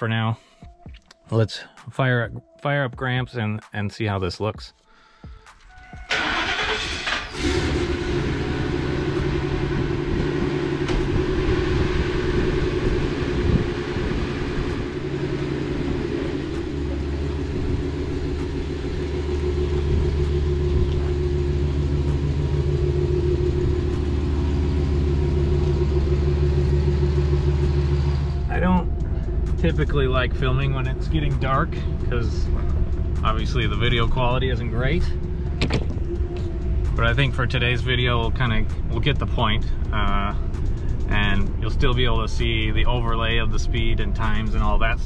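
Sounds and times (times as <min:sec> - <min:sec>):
truck engine starting and idling: 0:05.5 - 0:45.0.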